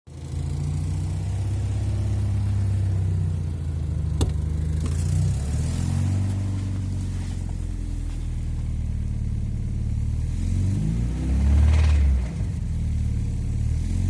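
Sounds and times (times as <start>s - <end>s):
car engine idling and revving: 0.1s - 14.0s.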